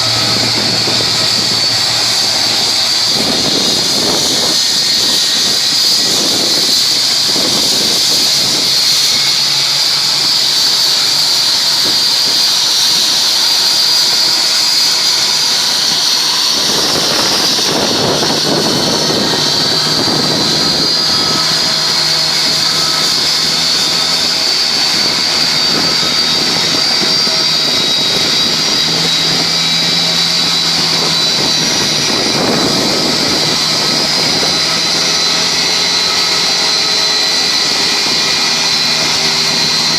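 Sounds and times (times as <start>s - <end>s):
jet turbine whine: 0.0s - 39.9s
low rumble: 0.0s - 39.9s
rushing noise: 0.0s - 39.9s.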